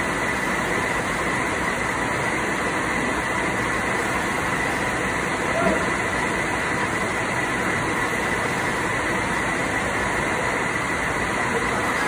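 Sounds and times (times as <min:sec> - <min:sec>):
faint high whine: 0:00.0 - 0:12.0
machinery drone: 0:00.0 - 0:12.0.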